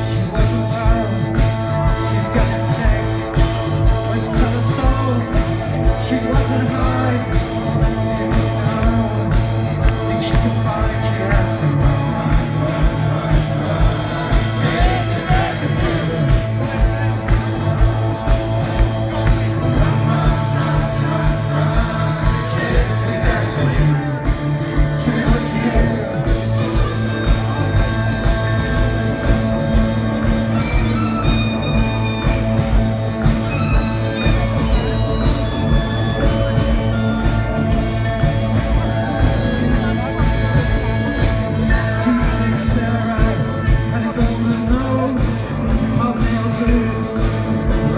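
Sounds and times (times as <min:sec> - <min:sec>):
lead vocal singing: 0:00.0 - 0:29.8, 0:32.6 - 0:47.9
fast drumbeat: 0:00.0 - 0:47.9
live rock band playing: 0:00.0 - 0:47.9.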